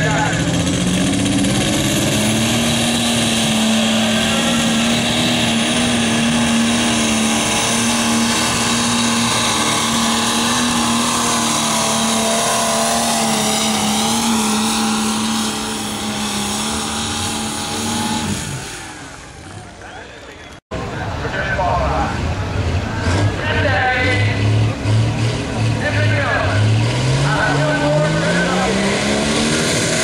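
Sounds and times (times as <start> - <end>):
high engine whine: 0.0 - 30.0
tractor diesel engine drone: 0.0 - 30.0.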